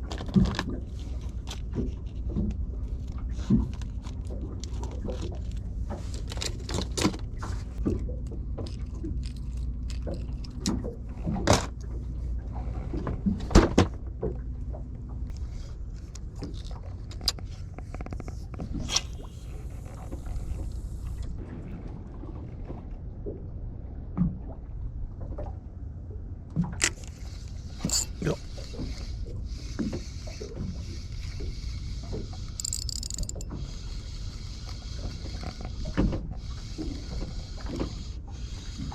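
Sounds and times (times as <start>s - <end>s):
boat engine droning: 1.0s - 38.9s.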